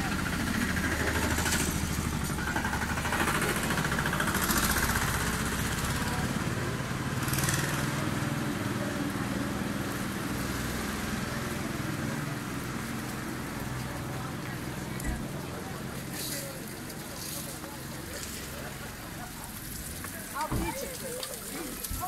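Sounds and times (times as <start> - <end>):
engine running: 0.0 - 20.6.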